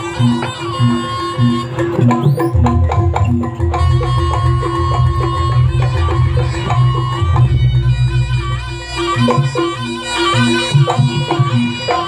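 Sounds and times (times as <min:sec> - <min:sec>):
drums keeping steady beat: 0:00.0 - 0:12.0
pitched percussion notes: 0:00.0 - 0:12.0
reedy wind instrument melody: 0:00.0 - 0:12.0.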